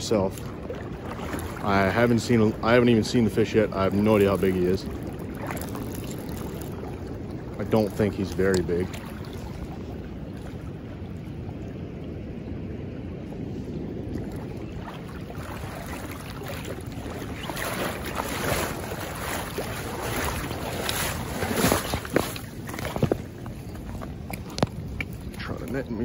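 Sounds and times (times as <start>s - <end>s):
river current rushing: 0.0s - 11.6s, 14.1s - 26.0s
wading splashes in rocky shallows: 0.0s - 26.0s
wind buffeting microphone: 0.0s - 26.0s.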